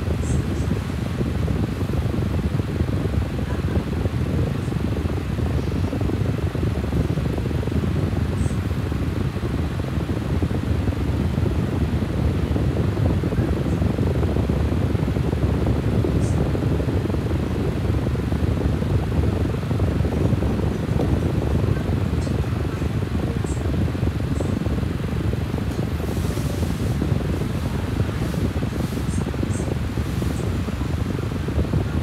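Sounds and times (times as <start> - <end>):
low rumbling motor noise: 0.0 - 32.0.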